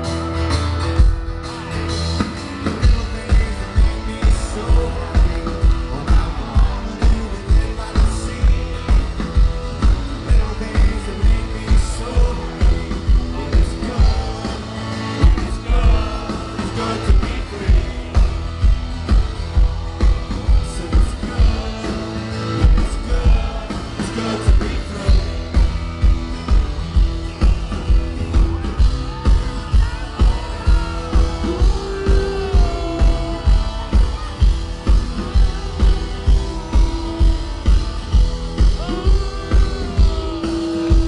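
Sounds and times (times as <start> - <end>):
live rock band playing: 0.0 - 41.0
steady drum beat: 1.0 - 41.0
person singing: 1.4 - 25.8, 28.3 - 41.0.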